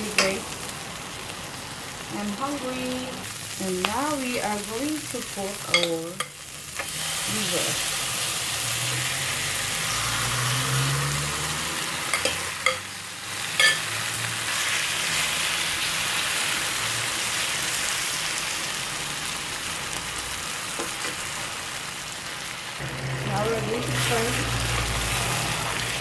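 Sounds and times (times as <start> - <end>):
meat sizzling in a wok: 0.0 - 26.0.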